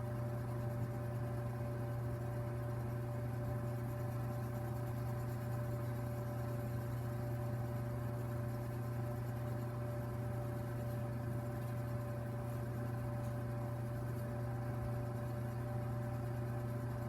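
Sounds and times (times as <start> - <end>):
fireplace low droning hum: 0.0 - 17.0.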